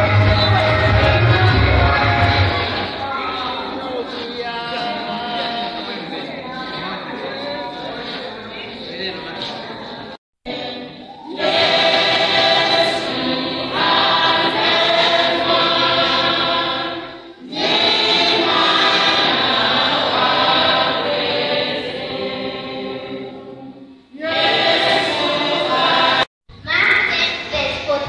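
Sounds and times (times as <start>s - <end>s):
children's choir singing: 0.0s - 8.2s, 8.9s - 26.3s.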